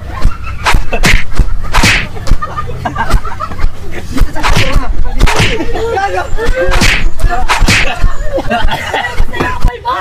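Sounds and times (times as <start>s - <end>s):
group talking excitedly: 0.0s - 10.0s
people laughing: 0.0s - 10.0s.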